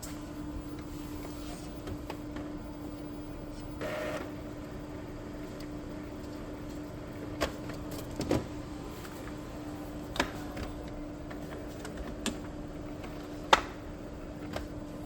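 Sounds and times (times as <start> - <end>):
printer humming: 0.0 - 15.0.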